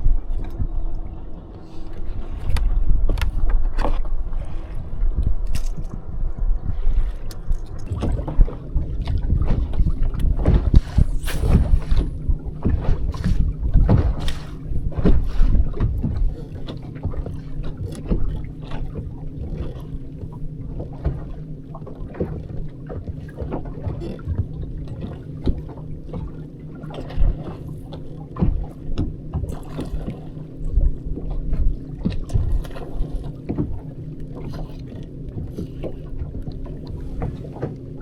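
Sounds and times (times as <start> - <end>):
boat motor humming: 0.0 - 38.0.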